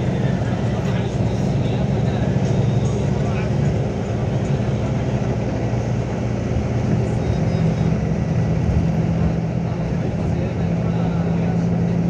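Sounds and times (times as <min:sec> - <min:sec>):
vehicle engine and tyre drone: 0:00.0 - 0:12.0.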